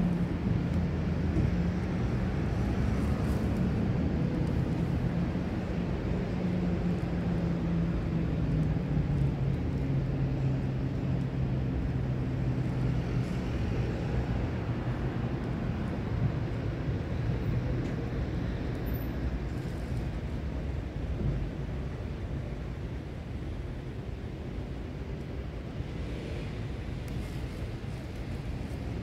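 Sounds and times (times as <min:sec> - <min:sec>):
low mechanical engine drone: 0:00.0 - 0:29.0
outdoor background noise: 0:00.0 - 0:29.0.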